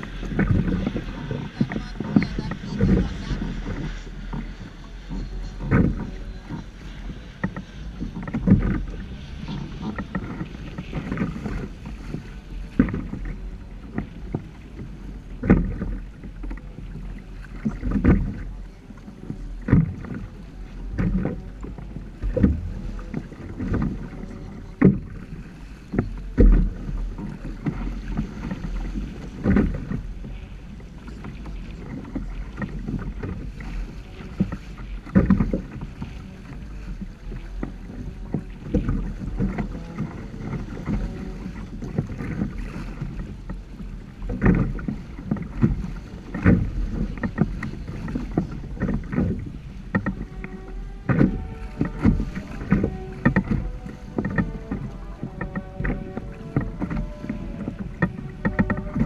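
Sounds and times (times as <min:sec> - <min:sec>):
water splashing against hull: 0:00.0 - 0:59.0
wind rumble on microphone: 0:00.0 - 0:59.0.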